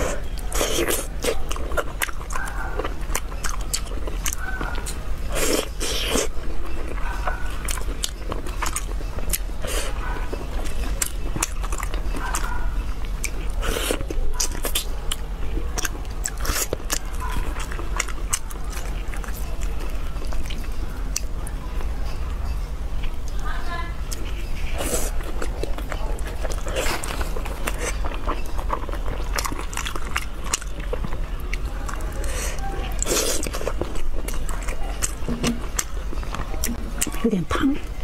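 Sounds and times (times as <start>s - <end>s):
chewing mouth sounds: 0.0s - 21.9s, 24.1s - 38.0s
low steady hum: 0.0s - 38.0s.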